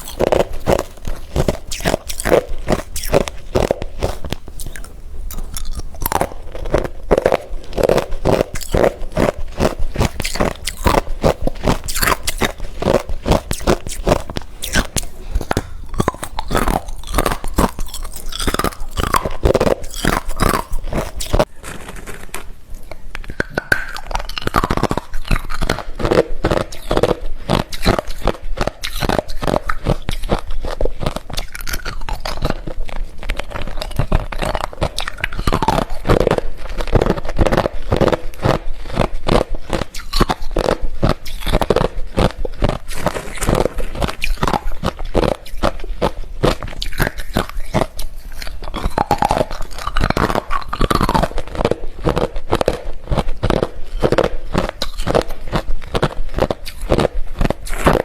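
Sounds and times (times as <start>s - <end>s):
chewing crunching ice: 0.0s - 58.0s.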